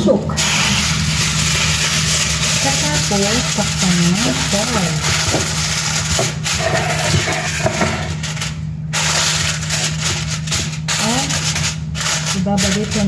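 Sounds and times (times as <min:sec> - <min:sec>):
steady low hum: 0:00.0 - 0:13.0
aluminium foil crinkling: 0:00.4 - 0:13.0.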